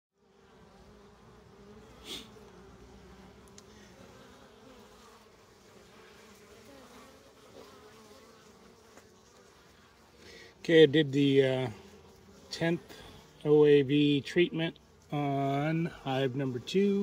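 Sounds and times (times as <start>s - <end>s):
bees buzzing: 0.2s - 17.0s.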